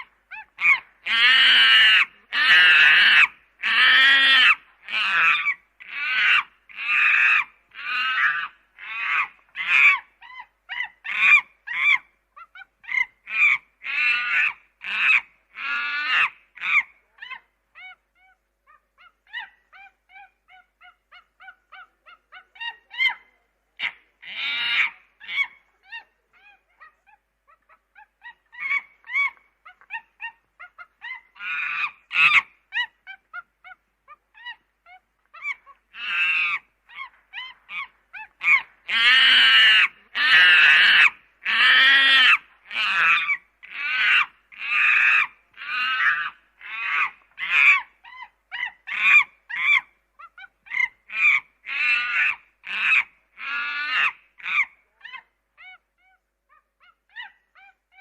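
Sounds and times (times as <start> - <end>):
monkey calling: 0.0 - 58.0.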